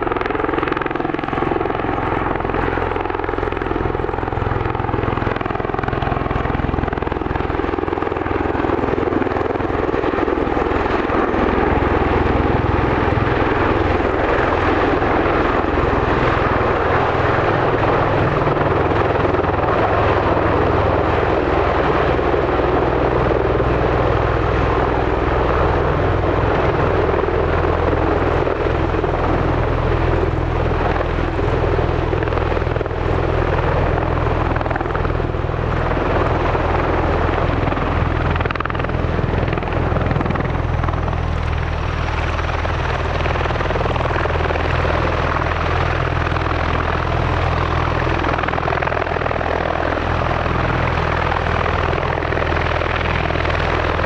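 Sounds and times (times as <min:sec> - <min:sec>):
tiltrotor aircraft droning: 0:00.0 - 0:54.0.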